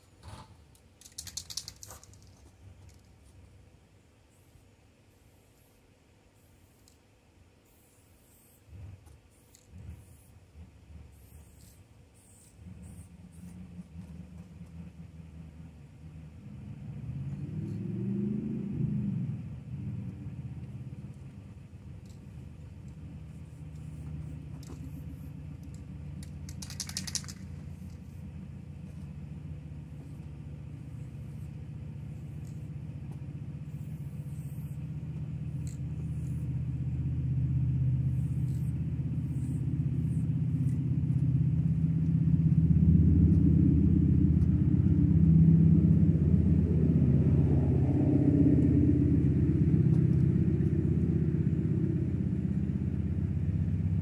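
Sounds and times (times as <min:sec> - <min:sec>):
vehicle engine rumbling: 0:00.0 - 0:07.0, 0:07.7 - 0:54.0.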